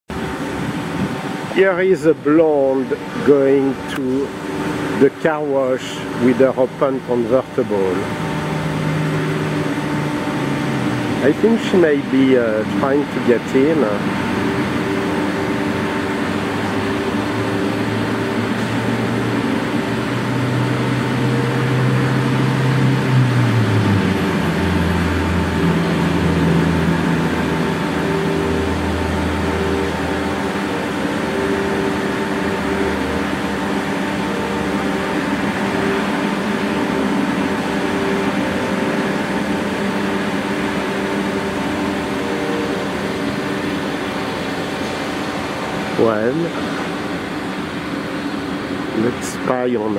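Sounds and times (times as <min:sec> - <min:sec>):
mechanical hum: 0:00.1 - 0:49.9.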